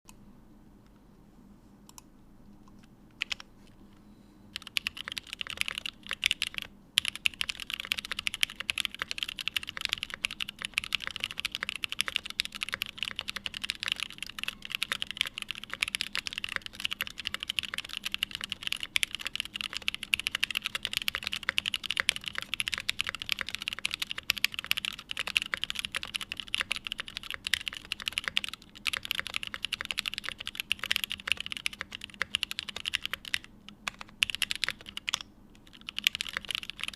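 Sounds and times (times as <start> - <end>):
fast typing on mechanical keyboard: 3.2 - 3.4, 4.6 - 36.9.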